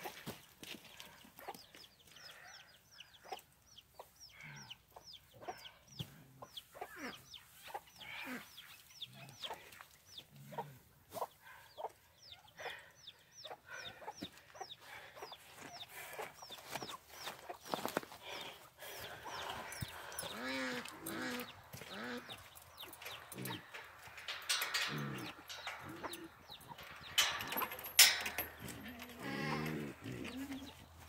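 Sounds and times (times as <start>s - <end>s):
chickens clucking: 1.1s - 31.0s.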